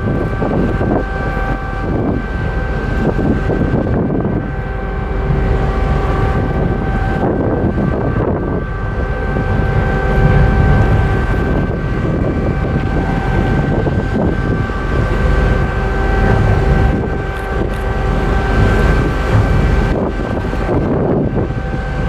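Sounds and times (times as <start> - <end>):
high steady whine: 0.0 - 22.0
low ferry machinery drone: 0.0 - 22.0
wind buffeting microphone: 0.0 - 22.0.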